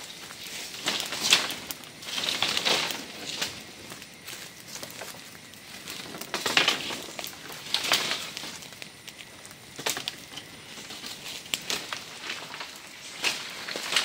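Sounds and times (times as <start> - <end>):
dry leaves and twigs crunching: 0.0 - 14.0.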